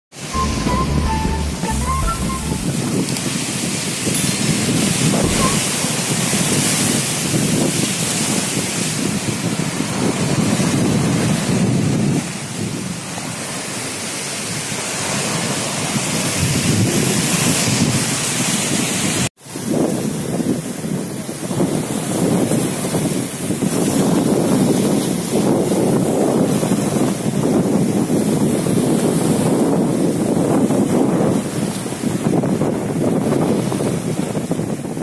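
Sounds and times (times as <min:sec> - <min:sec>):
wind buffeting microphone: 0:02.7 - 0:13.4, 0:15.8 - 0:35.0
waves breaking on rocky shore: 0:05.6 - 0:35.0.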